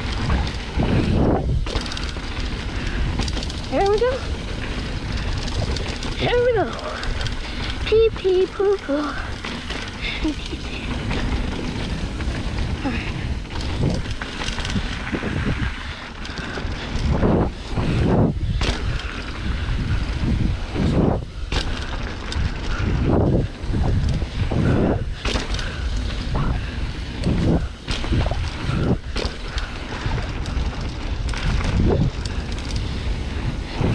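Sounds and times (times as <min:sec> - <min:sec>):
low rumble: 0:00.0 - 0:33.9
wind buffeting microphone: 0:00.0 - 0:33.9.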